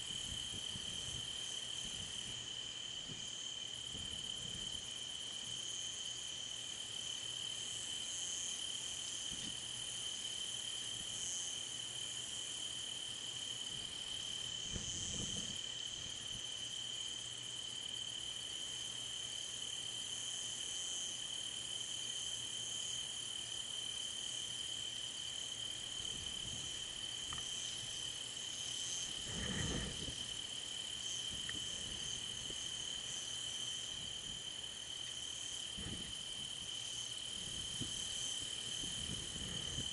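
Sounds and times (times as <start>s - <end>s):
crickets and night insects: 0.0s - 39.9s.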